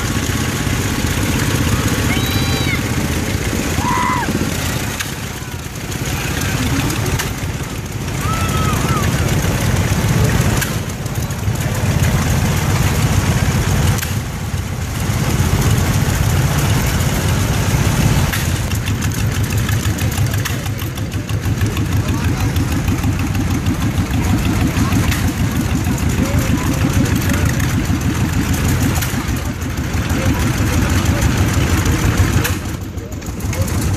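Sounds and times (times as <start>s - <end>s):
tractor engines chugging: 0.0s - 33.9s.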